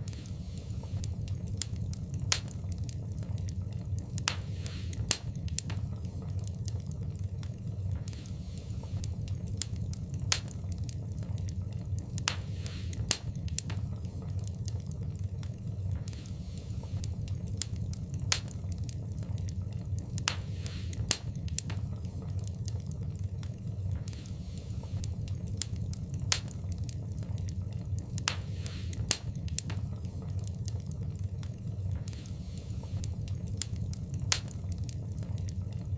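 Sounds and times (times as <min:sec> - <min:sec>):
fire hiss: 0:00.0 - 0:35.9
wood fire crackling: 0:00.0 - 0:35.9.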